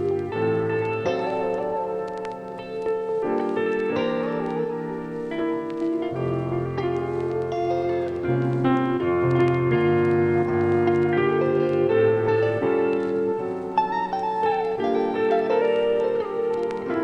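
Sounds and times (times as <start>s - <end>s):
piano and plucked strings music: 0.0s - 17.0s.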